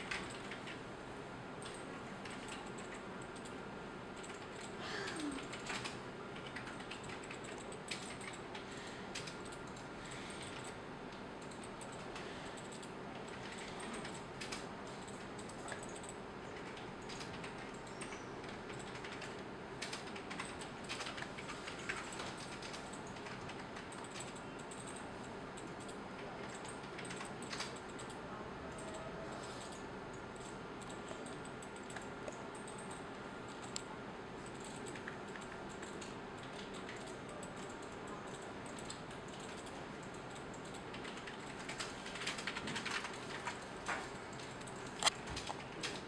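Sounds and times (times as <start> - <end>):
computer mouse and keyboard clicking: 0.0 - 0.8, 1.6 - 3.6, 4.2 - 46.0.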